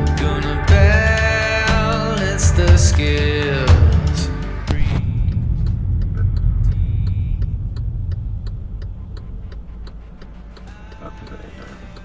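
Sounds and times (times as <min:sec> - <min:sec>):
regular ticking: 0:00.0 - 0:12.0
road vehicle rumble: 0:00.0 - 0:12.0.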